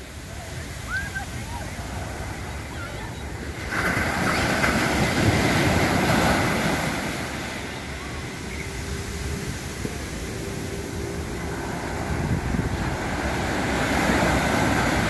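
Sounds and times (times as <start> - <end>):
sea waves breaking on beach: 0.0 - 15.0
wind rumble on microphone: 0.0 - 15.0.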